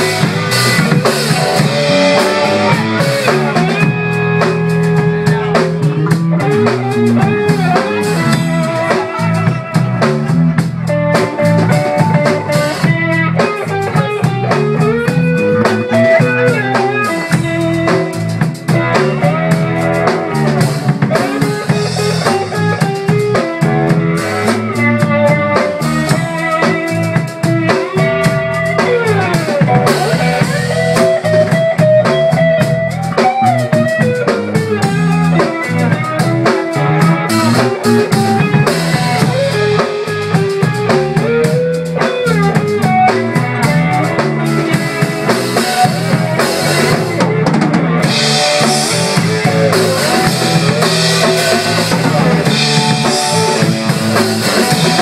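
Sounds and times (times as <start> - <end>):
drum kit with rimshots: 0.0 - 55.0
electric bass: 0.0 - 55.0
electric guitar lead line: 0.0 - 55.0.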